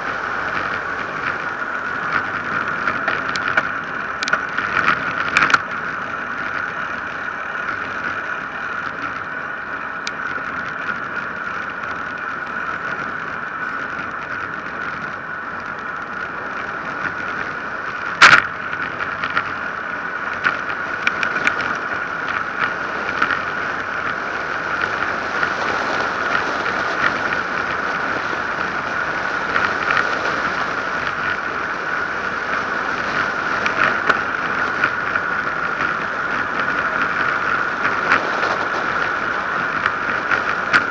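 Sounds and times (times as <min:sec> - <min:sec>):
bicycle tyre whir: 0:00.0 - 0:40.9.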